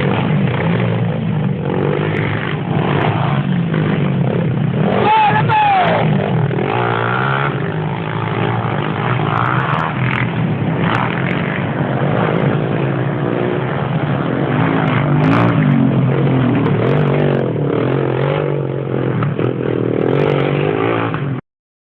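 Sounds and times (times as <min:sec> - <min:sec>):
dirt bike engines revving: 0:00.0 - 0:21.4.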